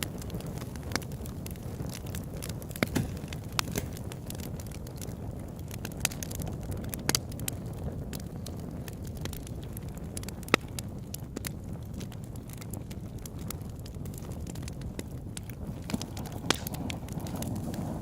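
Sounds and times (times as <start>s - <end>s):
burning wood pops: 0.0s - 18.0s
campfire crackling: 0.0s - 18.0s.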